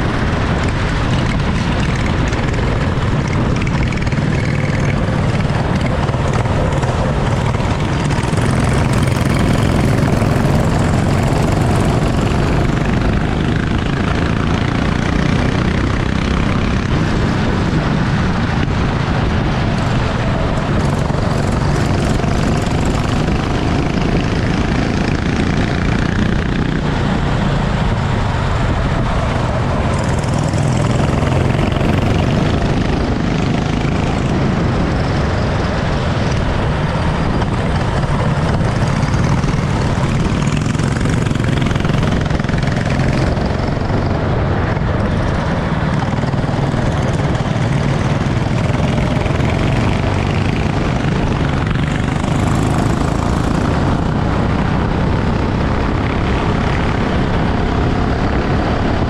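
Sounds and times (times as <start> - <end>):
kart engine running: 0.0 - 59.0
rushing noise: 0.0 - 59.0.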